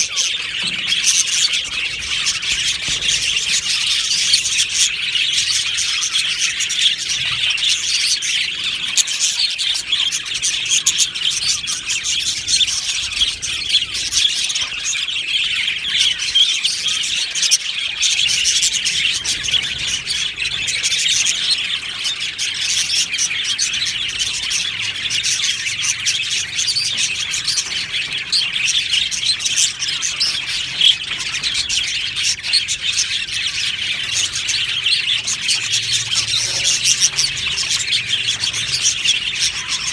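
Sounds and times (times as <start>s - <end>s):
bird squawks: 0.0s - 39.9s
budgerigars chattering: 0.0s - 39.9s.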